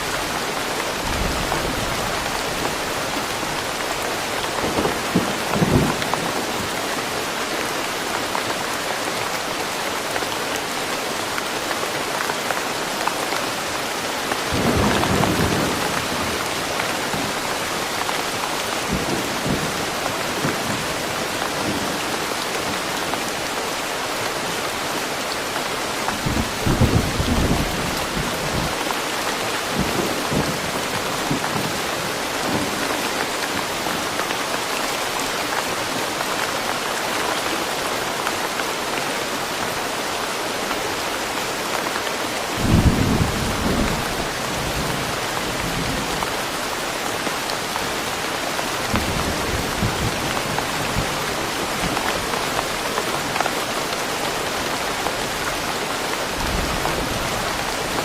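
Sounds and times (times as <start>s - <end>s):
steady rain in woodland: 0.0s - 58.0s.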